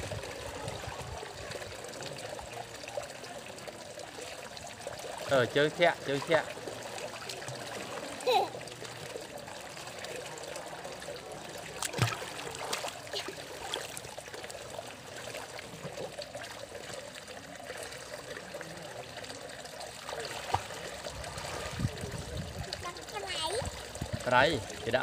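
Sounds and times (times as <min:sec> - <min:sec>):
pool water sloshing and trickling: 0:00.0 - 0:25.0.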